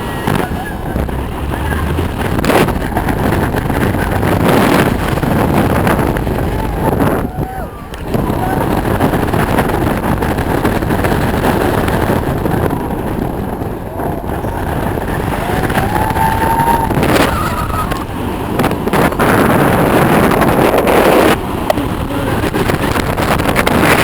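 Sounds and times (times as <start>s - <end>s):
roller coaster rumbling on track: 0.0s - 24.0s
wind buffeting microphone: 0.0s - 24.0s.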